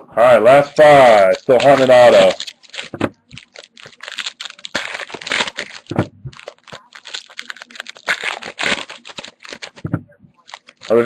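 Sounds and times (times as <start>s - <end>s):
foil wrapper crinkling and tearing: 0.8s - 9.8s, 10.4s - 11.0s.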